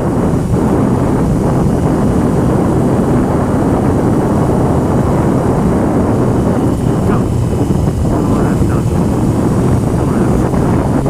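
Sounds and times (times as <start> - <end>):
motorcycle running and road noise: 0.0 - 11.0
wind rumbling on microphone: 0.0 - 11.0.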